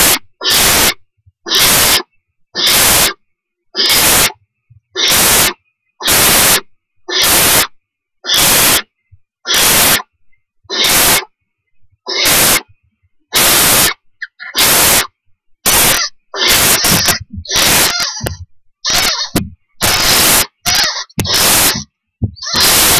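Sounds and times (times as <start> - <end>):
owlets hissing: 0.0 - 3.2, 3.8 - 4.4, 5.0 - 10.1, 10.7 - 11.3, 12.1 - 22.9.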